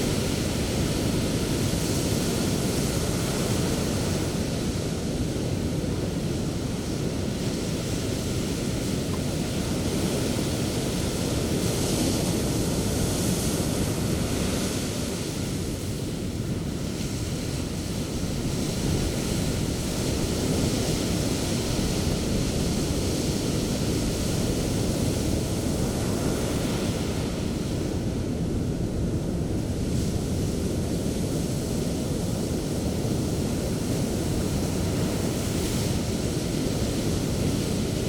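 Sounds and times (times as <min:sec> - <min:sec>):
sea waves breaking on beach: 0:00.0 - 0:38.0.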